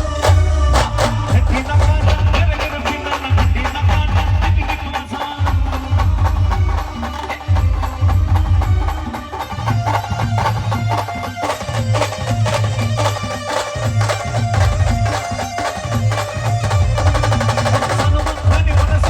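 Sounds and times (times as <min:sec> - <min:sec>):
dance band music: 0:00.0 - 0:19.0.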